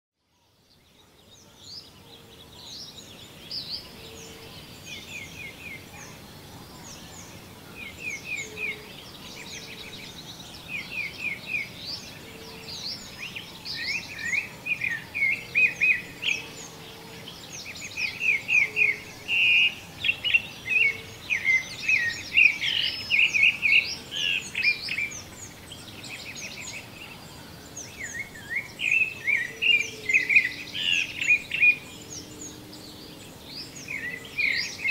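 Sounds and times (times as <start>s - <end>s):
birds chirping and singing: 0.7s - 34.9s.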